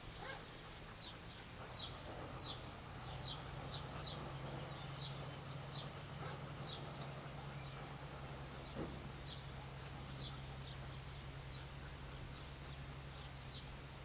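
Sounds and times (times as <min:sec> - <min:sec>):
small bird chirping: 0:00.0 - 0:14.0
steady low hum: 0:00.0 - 0:14.0.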